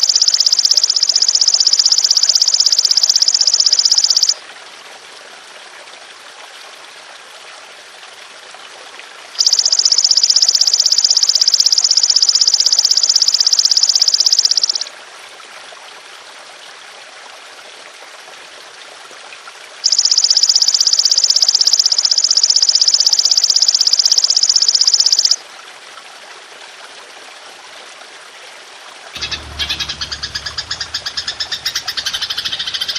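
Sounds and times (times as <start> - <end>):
trickling water: 0.0 - 32.9.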